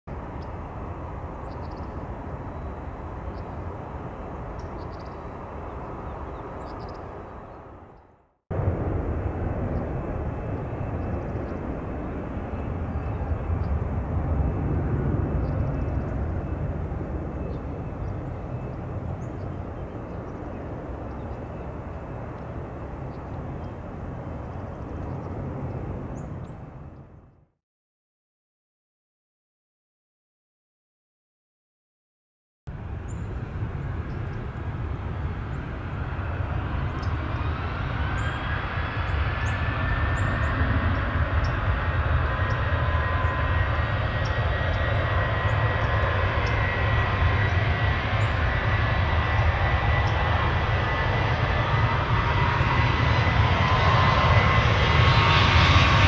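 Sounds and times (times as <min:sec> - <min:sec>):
jet engines rumbling: 0:00.1 - 0:27.4, 0:32.7 - 0:56.0.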